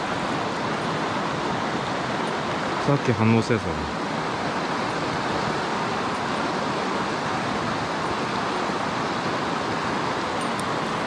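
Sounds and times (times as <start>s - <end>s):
stream rushing water: 0.0s - 11.0s.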